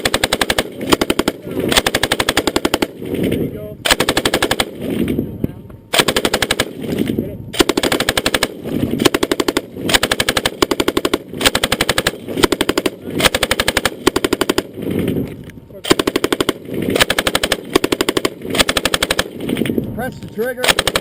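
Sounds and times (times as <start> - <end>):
machine gun firing bursts: 0.0 - 5.1, 5.9 - 15.2, 15.8 - 19.8, 20.6 - 21.0.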